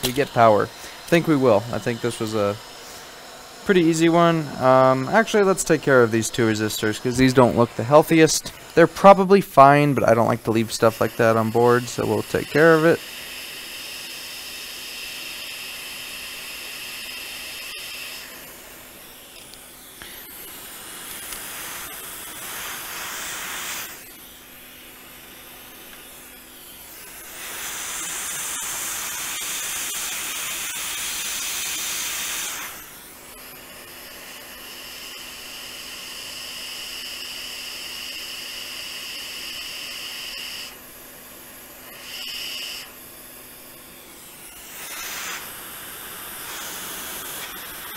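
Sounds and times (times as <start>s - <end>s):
hot air rework station hissing: 0.0s - 47.9s.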